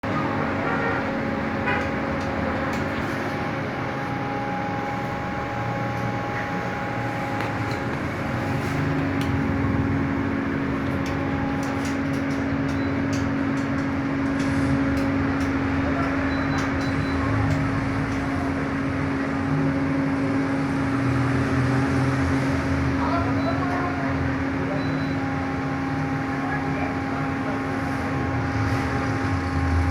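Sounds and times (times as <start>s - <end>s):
air conditioner hum: 0.0s - 29.9s
whooshing fan noise: 0.0s - 29.9s.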